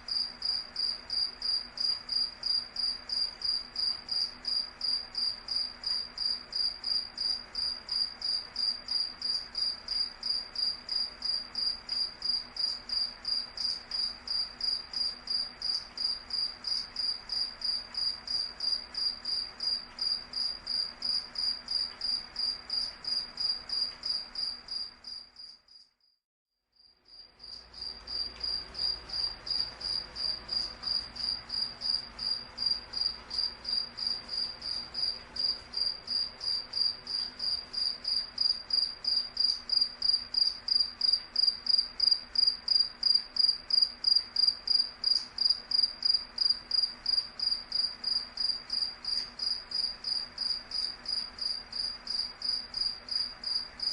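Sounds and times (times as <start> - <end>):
cricket chirping: 0.0 - 26.2, 26.8 - 53.9.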